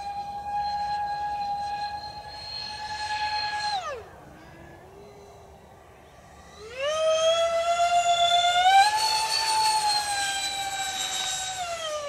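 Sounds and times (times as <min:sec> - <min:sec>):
electric ducted fans whining: 0:00.0 - 0:12.0.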